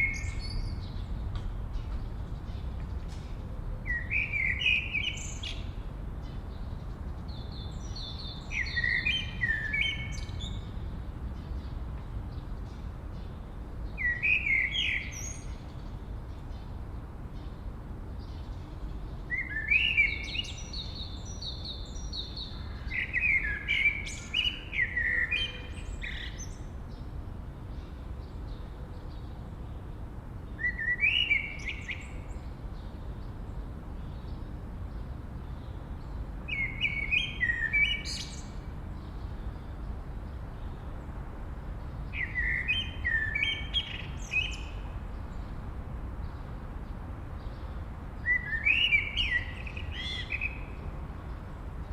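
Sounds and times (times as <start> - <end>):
low background hiss: 0.0 - 51.9
songbird singing: 0.0 - 51.9.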